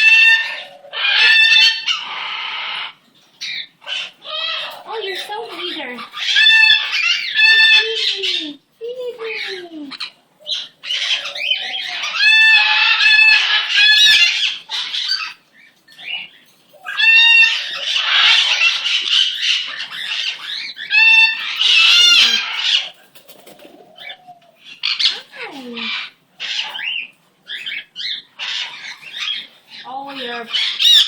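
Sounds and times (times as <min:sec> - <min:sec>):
bird chatter: 0:00.0 - 0:31.0
cockatiels calling shrilly: 0:00.0 - 0:31.0.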